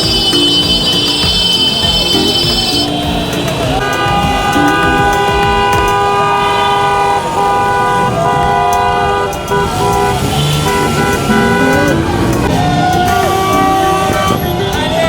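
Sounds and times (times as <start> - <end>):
noisy background: 0.0 - 15.0
vehicle horns honking: 0.0 - 15.0.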